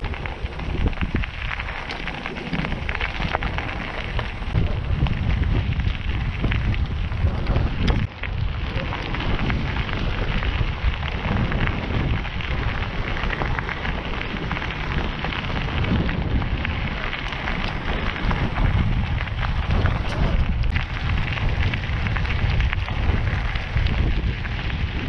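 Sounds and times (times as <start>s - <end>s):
bicycle tyres crunching on gravel: 0.0s - 25.0s
wind buffeting microphone: 0.0s - 25.0s.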